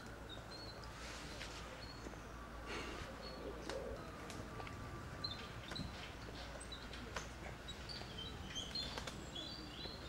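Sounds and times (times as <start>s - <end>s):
outdoor background noise: 0.0s - 10.0s
small birds chirping: 0.0s - 10.0s.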